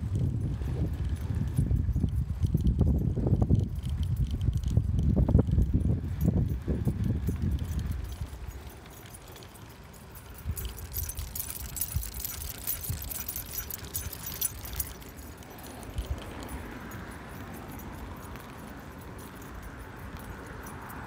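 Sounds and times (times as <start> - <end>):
trike jingling and rattling: 0.0 - 21.0.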